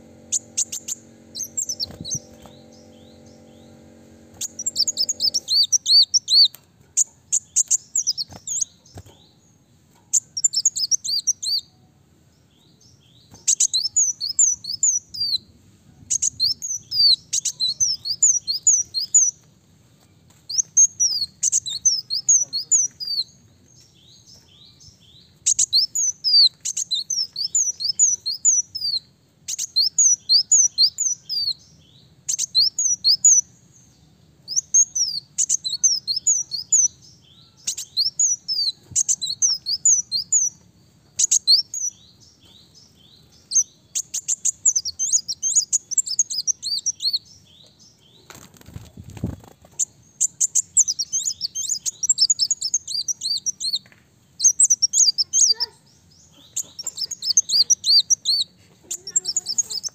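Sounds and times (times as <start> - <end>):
bird chirping: 0.0 - 19.5, 20.4 - 59.9.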